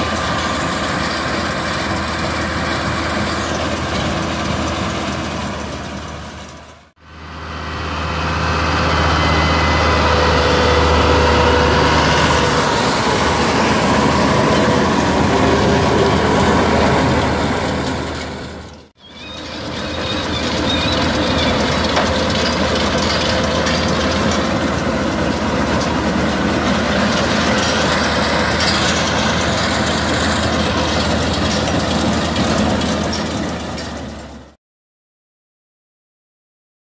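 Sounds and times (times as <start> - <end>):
baler machinery running: 0.0 - 34.6
tractor diesel engine under load: 0.0 - 34.6.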